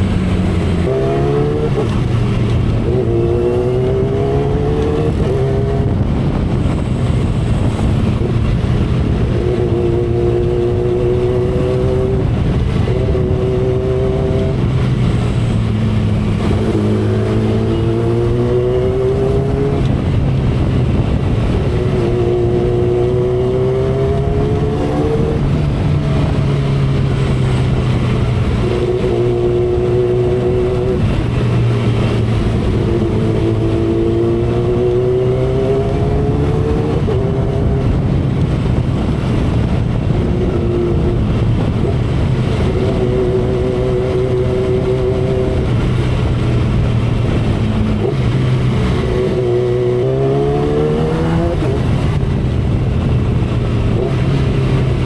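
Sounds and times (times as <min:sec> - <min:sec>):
heavy wind noise: 0:00.0 - 0:55.0
motorcycle engine revving: 0:00.0 - 0:55.0.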